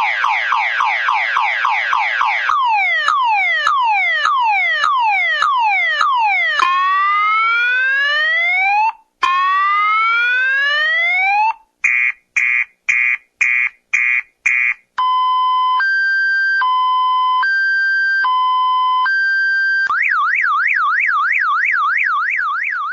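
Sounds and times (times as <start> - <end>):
electronic police siren: 0.0 - 22.9.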